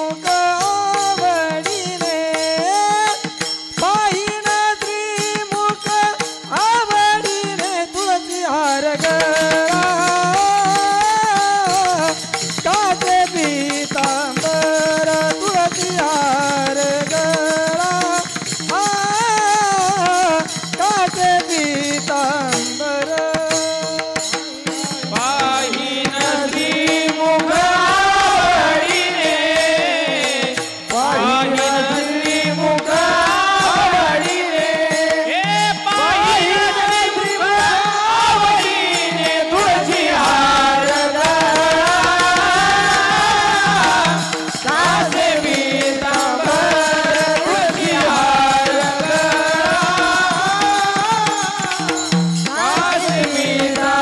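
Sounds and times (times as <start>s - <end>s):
hand cymbals clashing: 0.0s - 54.0s
man singing: 0.0s - 54.0s
drum: 0.1s - 54.0s.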